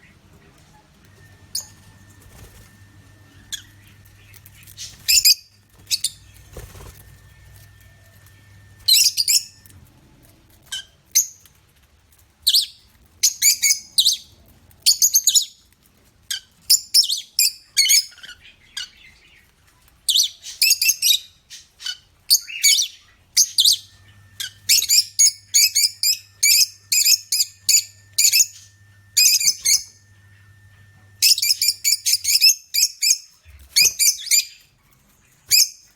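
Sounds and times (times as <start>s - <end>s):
small birds chirping: 0.0s - 9.9s, 10.5s - 35.9s.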